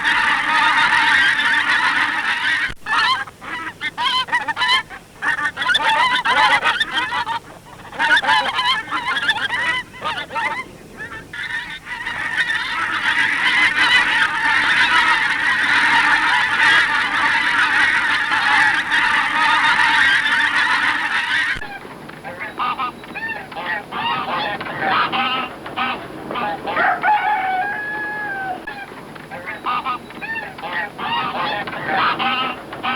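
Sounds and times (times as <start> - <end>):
fowl calls: 0.0 - 32.9
geese honking: 0.0 - 32.9.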